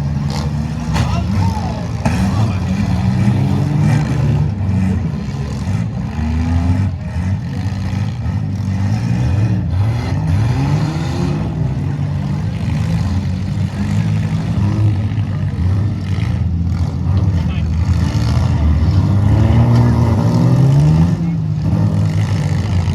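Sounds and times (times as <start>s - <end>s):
car engines revving: 0.0s - 22.9s.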